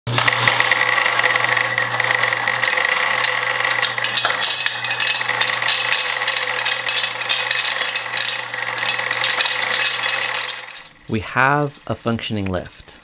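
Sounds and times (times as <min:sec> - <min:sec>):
marbles clattering on metal: 0:00.1 - 0:13.0
motor and gearbox humming: 0:00.1 - 0:13.0.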